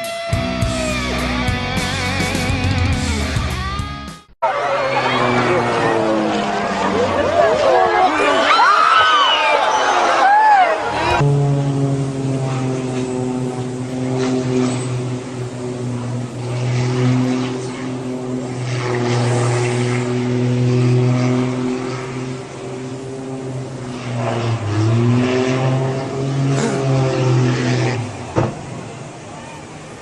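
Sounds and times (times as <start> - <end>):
propeller aircraft droning: 0.0 - 30.0.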